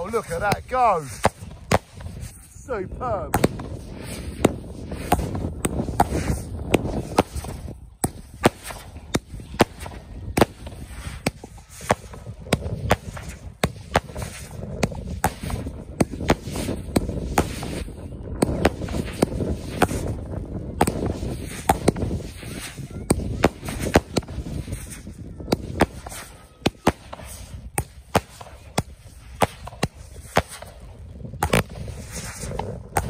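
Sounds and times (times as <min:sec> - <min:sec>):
fireworks banging: 0:00.0 - 0:33.0.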